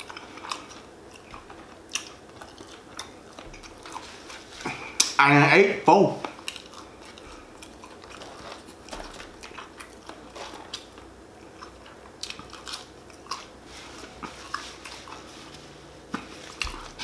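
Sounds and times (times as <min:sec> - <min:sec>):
person chewing crispy chicken: 0:00.0 - 0:05.2, 0:06.3 - 0:17.0.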